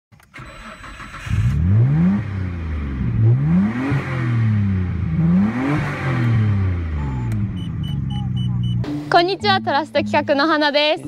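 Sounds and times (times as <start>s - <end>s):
car engine accelerating: 0.3s - 10.4s.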